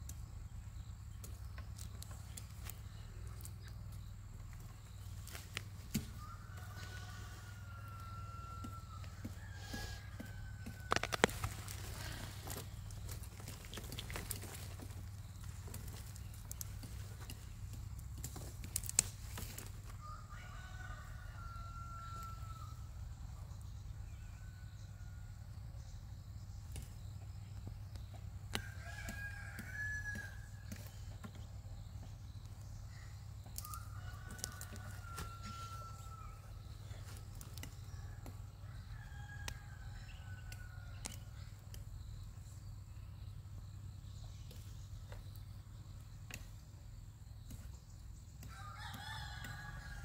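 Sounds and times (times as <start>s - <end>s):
roosters crowing: 1.6s - 25.9s, 27.0s - 41.9s, 46.1s - 50.0s.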